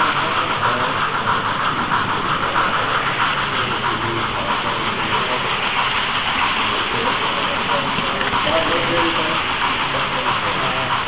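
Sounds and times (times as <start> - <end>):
model train whirring on track: 0.0 - 11.0.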